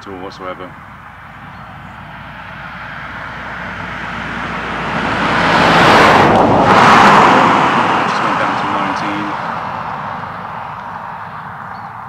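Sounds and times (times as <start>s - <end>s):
vehicle passing by: 0.2s - 12.0s.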